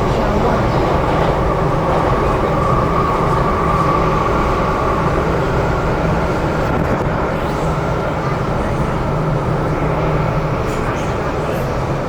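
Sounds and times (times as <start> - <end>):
train rail rumble: 0.0 - 12.0
train whine: 0.0 - 12.0.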